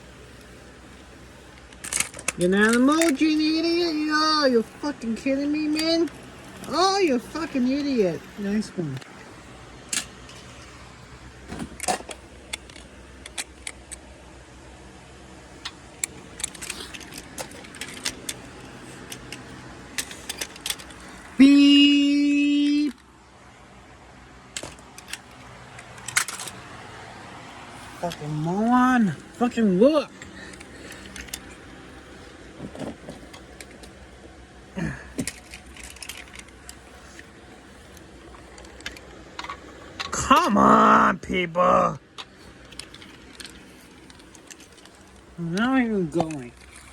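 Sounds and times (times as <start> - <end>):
light clicks and rattles: 0.0 - 14.2, 15.4 - 23.1, 24.4 - 40.6, 42.0 - 46.9
car engine and road hum: 0.0 - 46.9.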